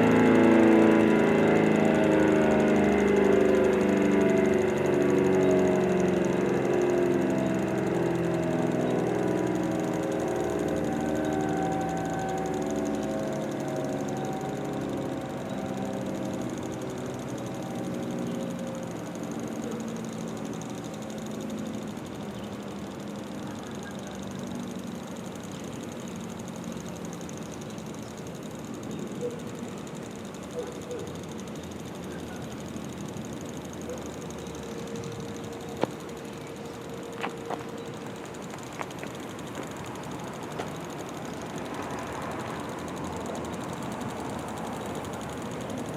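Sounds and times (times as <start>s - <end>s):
warning siren winding down: 0.0s - 45.9s.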